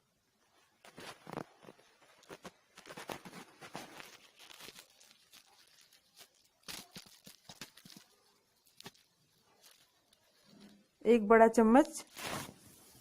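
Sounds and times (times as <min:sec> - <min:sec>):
rustling scrapes: 0:00.8 - 0:11.0, 0:12.0 - 0:13.0.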